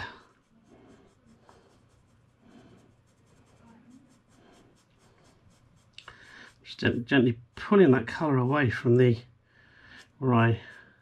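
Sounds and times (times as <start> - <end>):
sponge applicator rubbing paper: 0.0 - 9.0.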